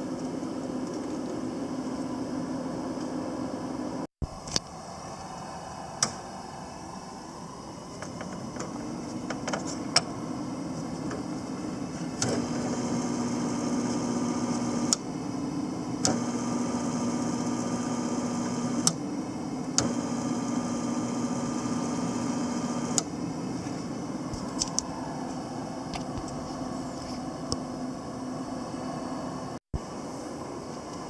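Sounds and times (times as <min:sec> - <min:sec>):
welder electrical hum: 0:00.0 - 0:31.0.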